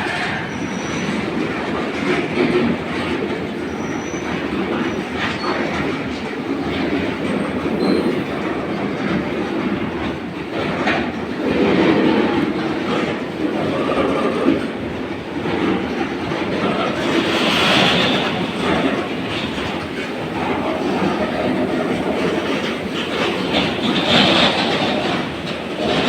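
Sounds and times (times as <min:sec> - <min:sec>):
train wheels clattering over rail joints: 0:00.0 - 0:26.0.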